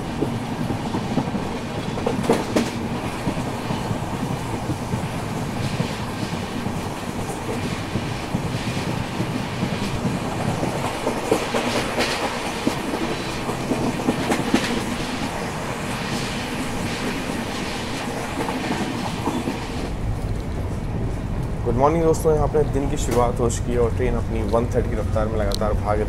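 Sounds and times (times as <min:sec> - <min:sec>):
clickety-clack over rail joints: 0:00.0 - 0:26.0
train wheels rumbling on rail: 0:00.0 - 0:26.0.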